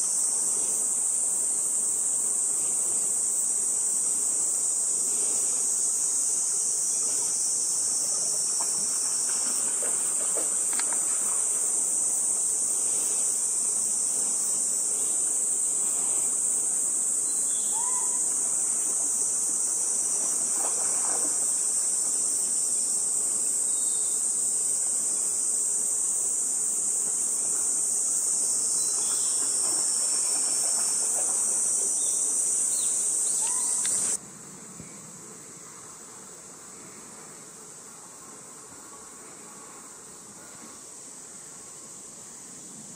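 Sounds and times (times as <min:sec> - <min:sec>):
chorus of summer insects: 0:00.0 - 0:42.9.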